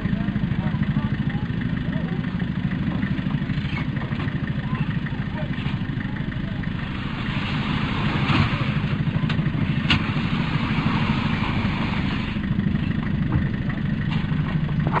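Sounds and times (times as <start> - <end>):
forklift engine idling: 0.0 - 15.0.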